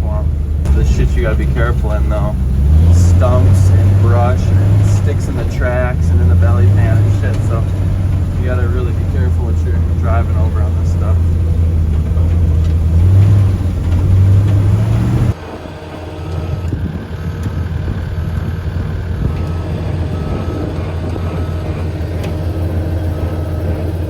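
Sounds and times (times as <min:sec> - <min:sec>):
heavy tracked machine engine: 0:00.0 - 0:24.0.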